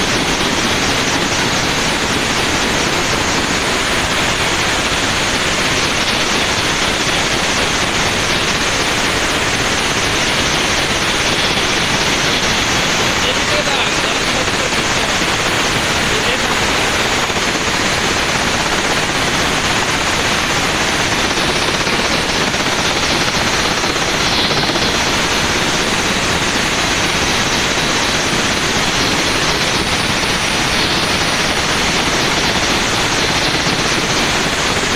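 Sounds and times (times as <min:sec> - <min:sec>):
helicopter running: 0:00.0 - 0:34.9.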